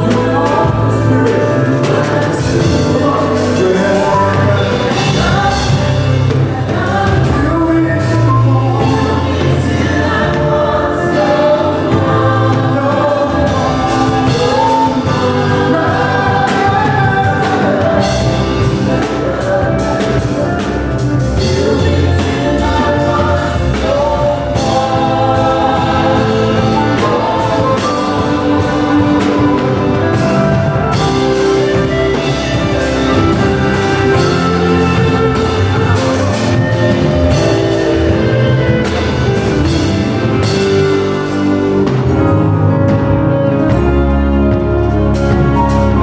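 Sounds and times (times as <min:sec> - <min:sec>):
choir singing gospel music: 0:00.0 - 0:46.0
drums: 0:00.0 - 0:46.0.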